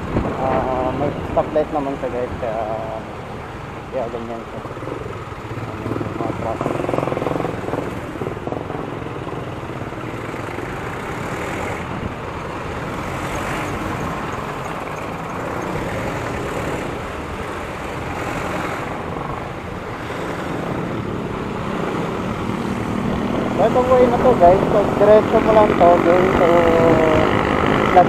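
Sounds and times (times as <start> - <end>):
road and traffic noise: 0.0 - 28.0
scooter engine running: 2.2 - 28.0.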